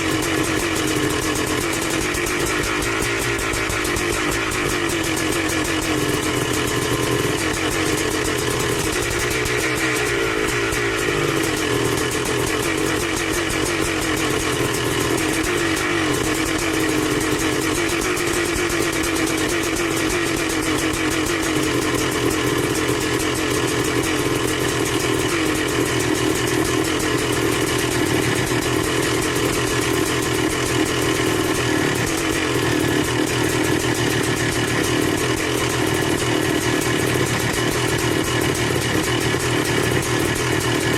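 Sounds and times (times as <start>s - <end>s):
two-stroke motorcycle engine running: 0.0s - 40.9s.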